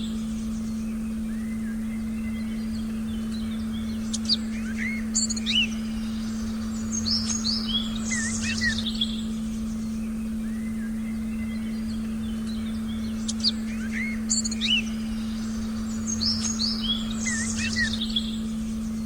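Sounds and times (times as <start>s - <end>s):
birds chirping: 0.0s - 19.0s
low meditation tone: 0.0s - 19.0s.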